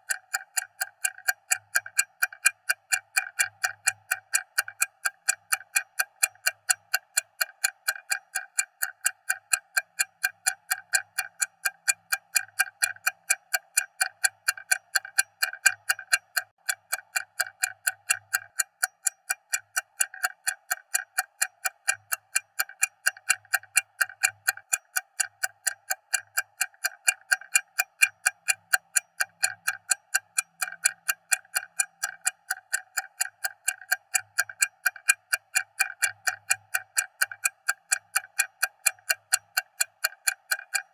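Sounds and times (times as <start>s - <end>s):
stopwatch ticking: 0.0s - 40.9s.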